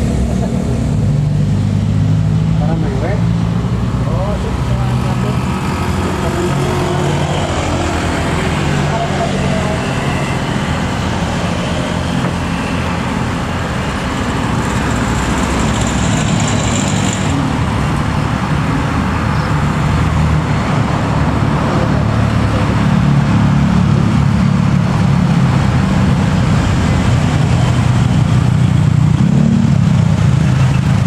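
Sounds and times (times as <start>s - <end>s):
diesel truck engine under load: 3.4s - 31.0s.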